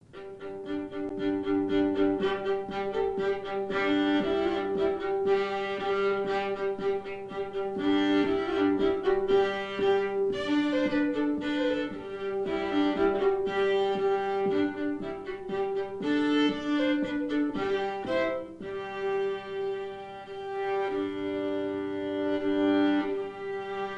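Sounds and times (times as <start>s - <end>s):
violin melody: 0.0s - 23.9s.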